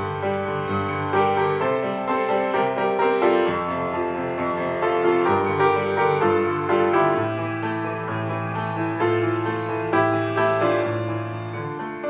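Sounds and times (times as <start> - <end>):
grand piano chords: 0.0 - 12.0.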